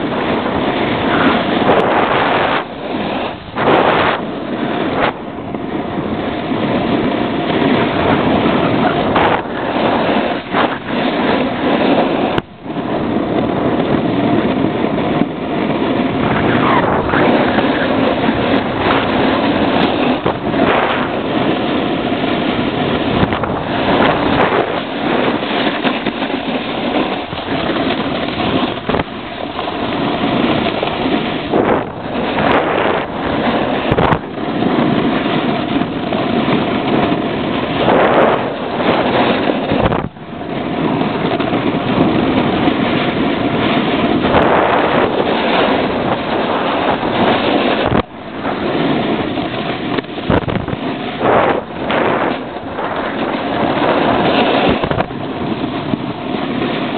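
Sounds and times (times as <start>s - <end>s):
snowboard scraping on snow: 0.0s - 56.9s
wind on microphone: 0.0s - 56.9s.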